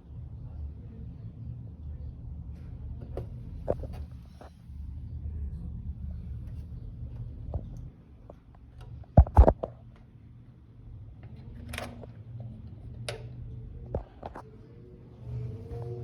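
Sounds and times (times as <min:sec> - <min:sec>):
fan motor hum: 0:00.0 - 0:16.0.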